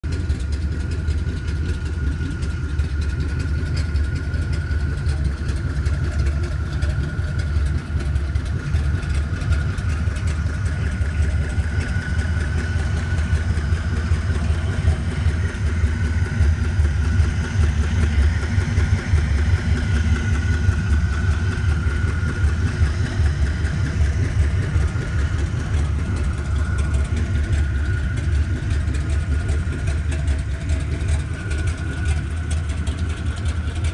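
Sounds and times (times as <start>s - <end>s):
car engine idling: 0.0s - 33.9s
thin steady whine: 0.1s - 33.9s.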